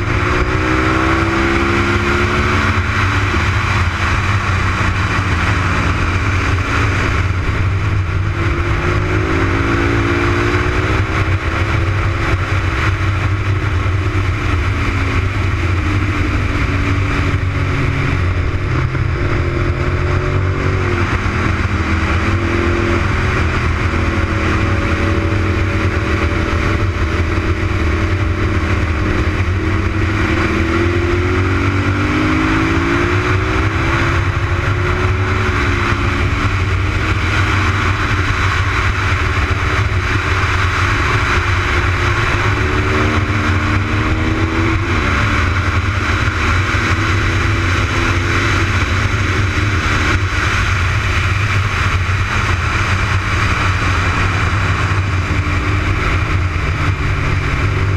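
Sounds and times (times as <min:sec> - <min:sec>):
motorcycle engine revving: 0:00.0 - 0:57.9
wind noise: 0:00.0 - 0:57.9.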